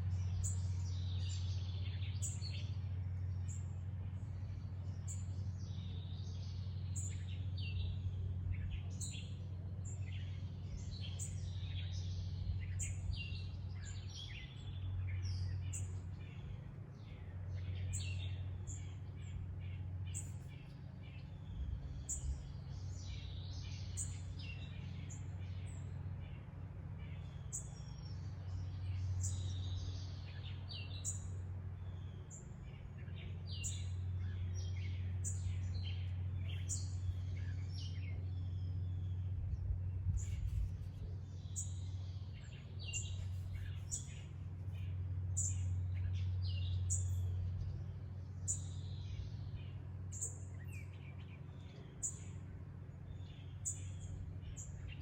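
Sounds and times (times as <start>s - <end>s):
steady low hum: 0.0s - 55.0s
wild birds chirping and singing: 0.0s - 55.0s.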